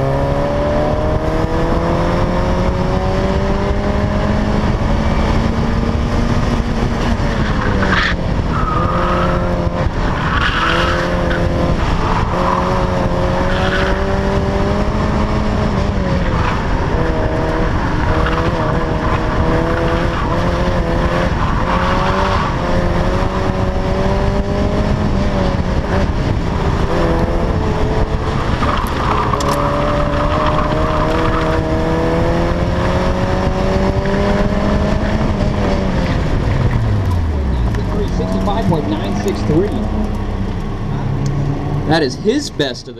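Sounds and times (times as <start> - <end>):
car engine revving hard: 0.0 - 42.4.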